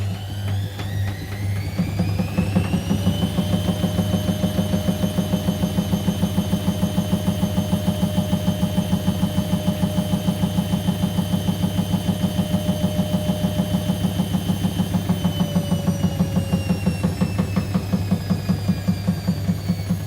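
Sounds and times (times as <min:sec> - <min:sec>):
washing machine drum spinning: 0:00.0 - 0:20.0.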